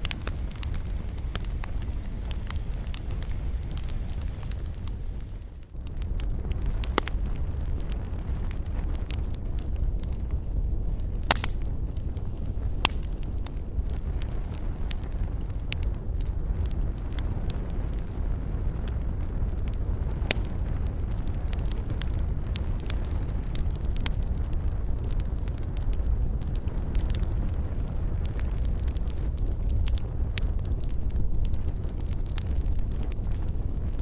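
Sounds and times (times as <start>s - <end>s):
fire crackles and pops: 0.0s - 34.0s
low rumble of flames: 0.0s - 34.0s.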